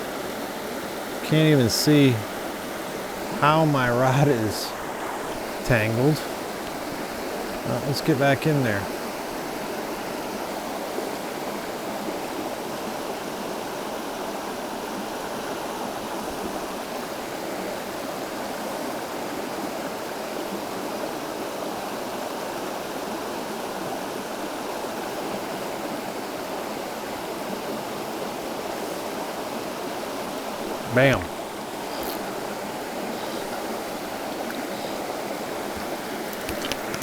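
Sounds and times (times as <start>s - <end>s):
river running over rocks: 0.0s - 22.8s, 24.2s - 37.0s.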